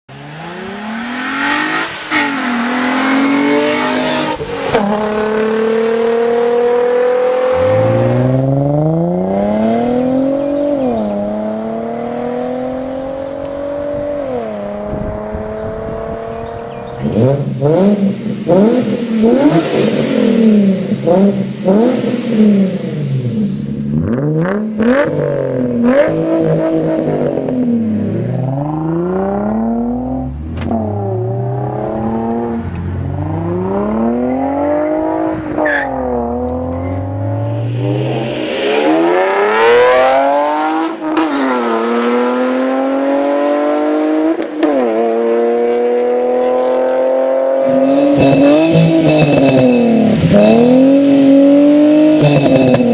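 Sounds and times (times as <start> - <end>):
car engine revving: 0.1 - 14.0, 14.6 - 52.9
car engine accelerating through gears: 0.1 - 52.9.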